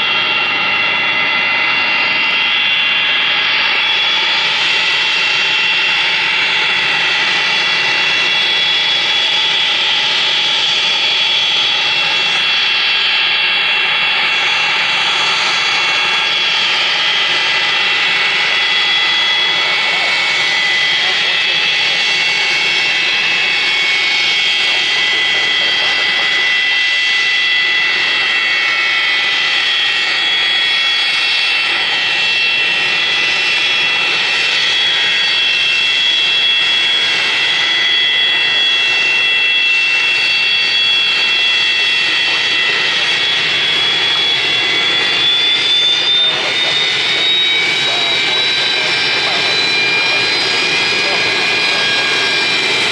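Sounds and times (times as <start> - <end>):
engine rush: 0.0 - 52.9
jet engine whine: 0.0 - 52.9.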